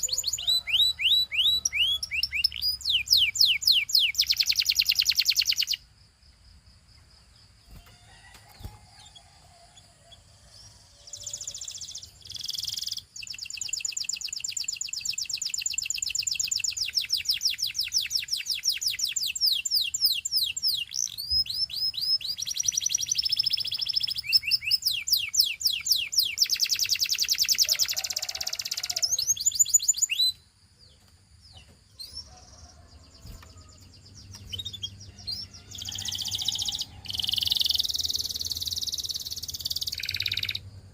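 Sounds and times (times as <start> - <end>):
canary singing trills: 0.0 - 5.8, 7.7 - 40.9.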